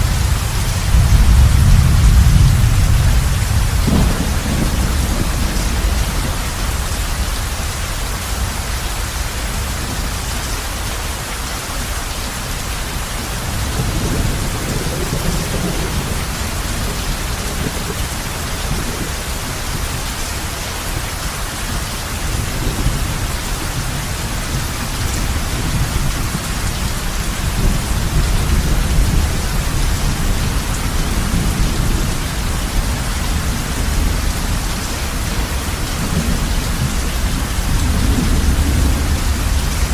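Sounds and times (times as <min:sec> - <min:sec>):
low rolling thunder: 0:00.0 - 0:10.2, 0:13.2 - 0:20.6, 0:22.1 - 0:39.9
heavy rain on a roof: 0:00.0 - 0:39.9.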